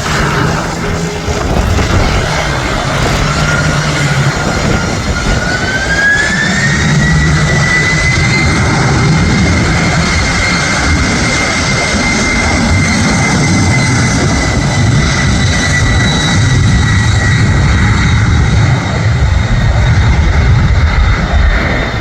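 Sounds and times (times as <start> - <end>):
jet engine whine: 0.0 - 22.0
loud jet engine rumble: 0.0 - 22.0.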